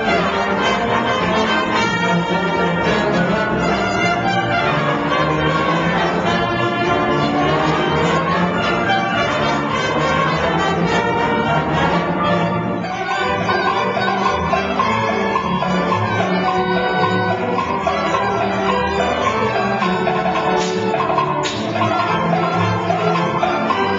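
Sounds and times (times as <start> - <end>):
brass instruments: 0.0 - 23.9
orchestra playing: 0.0 - 23.9.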